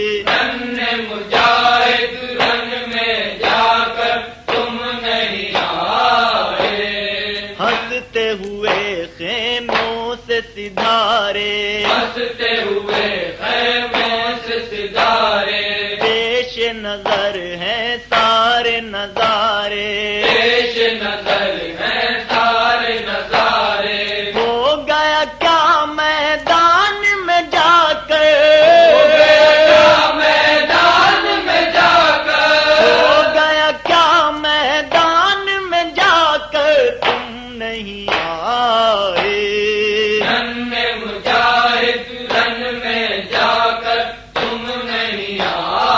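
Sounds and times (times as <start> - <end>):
voices chanting a lament: 0.0 - 45.9.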